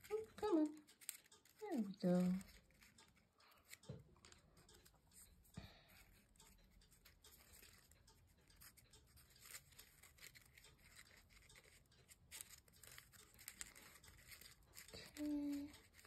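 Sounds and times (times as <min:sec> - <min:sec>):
paper rustling and ticking: 0:00.0 - 0:16.0.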